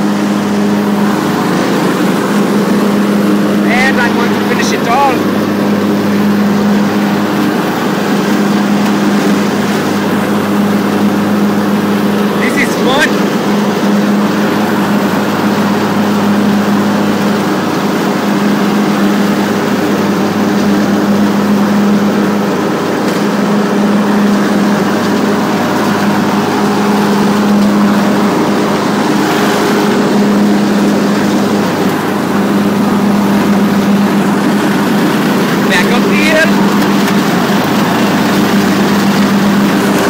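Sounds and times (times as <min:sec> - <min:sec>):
lawn tractor engine mowing: 0:00.0 - 0:40.0.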